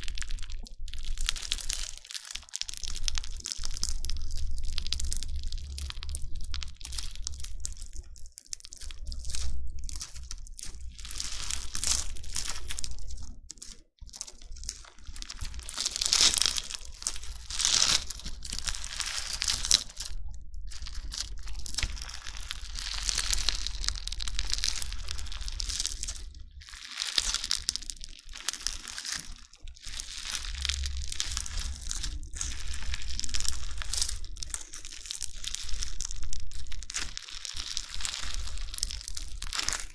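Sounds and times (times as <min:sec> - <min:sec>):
slime crackling and crunching: 0:00.0 - 0:39.9.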